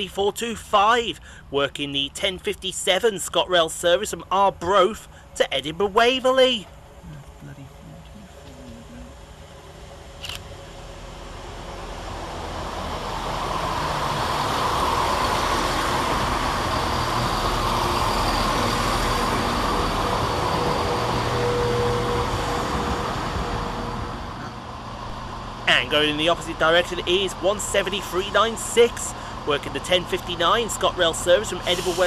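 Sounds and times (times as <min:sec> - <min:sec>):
diesel train engine and wheels: 0:00.0 - 0:32.0.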